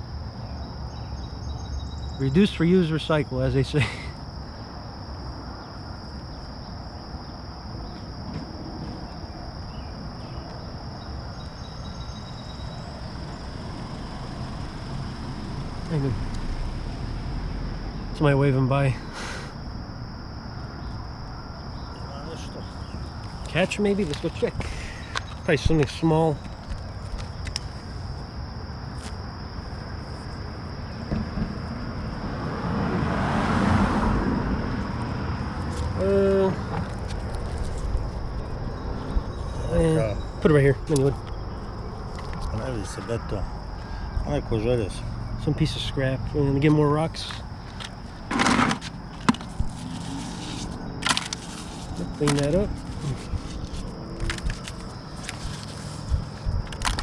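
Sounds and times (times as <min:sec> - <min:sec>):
insects droning: 0:00.0 - 0:57.0
traffic hum: 0:00.0 - 0:57.0
car passing: 0:07.6 - 0:25.2, 0:27.8 - 0:56.9.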